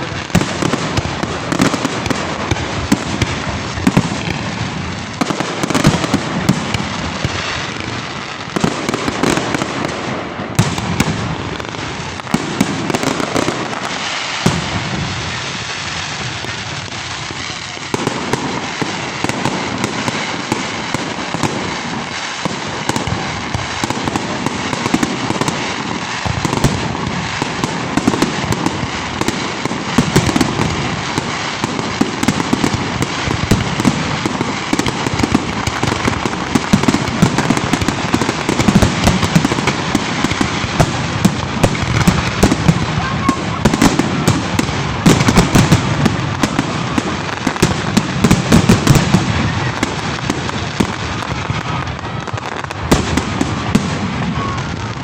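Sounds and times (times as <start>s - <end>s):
fireworks crackling and popping: 0.0s - 55.0s.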